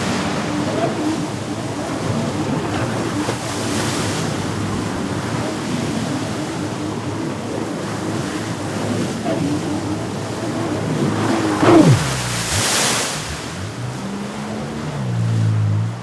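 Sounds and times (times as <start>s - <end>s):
waves splashing: 0.0s - 5.2s, 8.0s - 16.0s
jet ski engine running: 0.0s - 16.0s.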